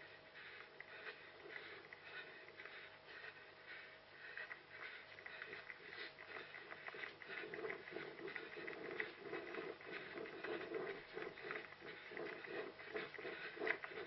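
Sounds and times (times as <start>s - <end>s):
running footsteps: 0.0s - 14.0s.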